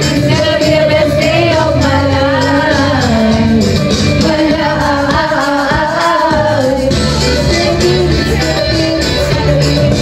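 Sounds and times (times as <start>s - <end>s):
instrumental backing music: 0.0s - 10.0s
person singing: 0.0s - 10.0s.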